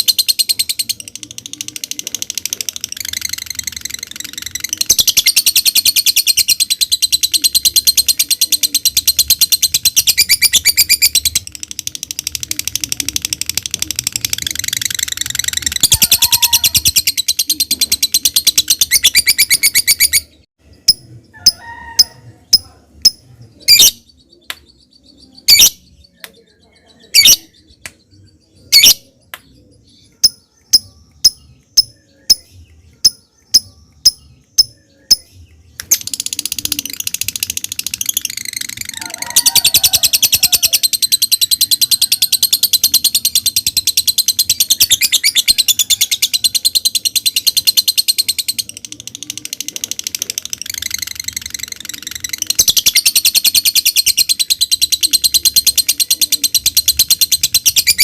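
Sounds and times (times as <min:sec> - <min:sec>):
high-pitched bird chattering trill: 0:00.0 - 0:58.0.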